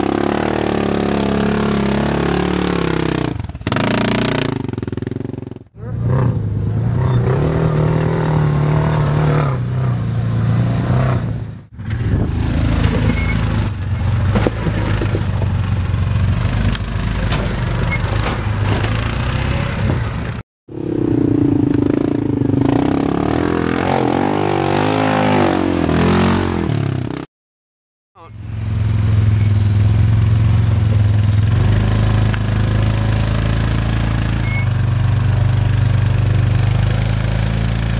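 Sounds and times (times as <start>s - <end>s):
off-road vehicle engines revving: 0.0s - 27.3s, 28.2s - 37.9s.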